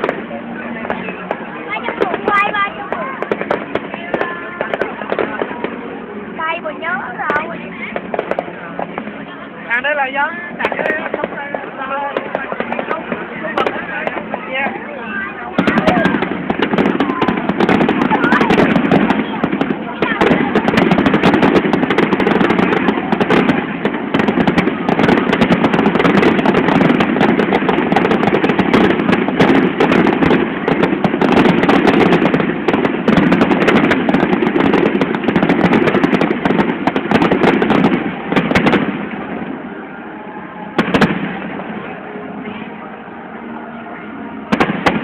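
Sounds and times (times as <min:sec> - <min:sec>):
sharp bangs: 0:00.0 - 0:39.8, 0:40.6 - 0:42.8, 0:44.3 - 0:45.0
fireworks crackling and bursting: 0:00.0 - 0:45.0.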